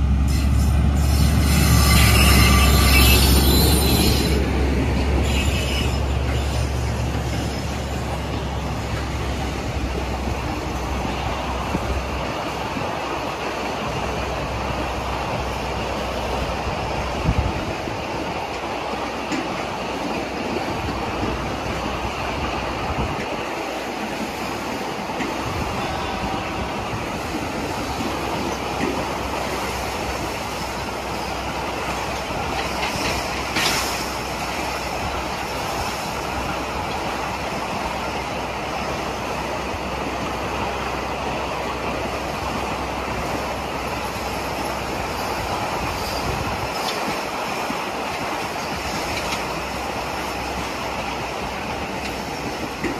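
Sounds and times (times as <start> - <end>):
train wheels rumbling and rattling: 0.0 - 52.9.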